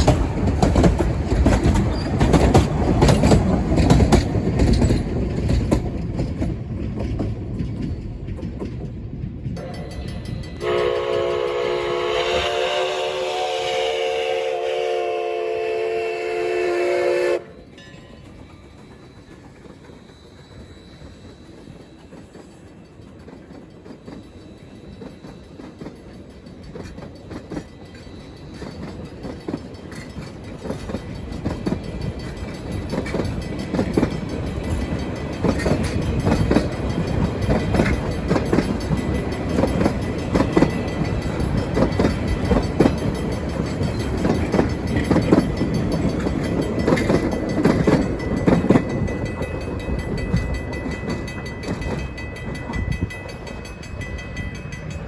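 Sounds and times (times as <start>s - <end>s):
wheels clicking over rail joints: 0.0s - 12.4s, 17.6s - 55.0s
passenger train passing: 0.0s - 55.0s.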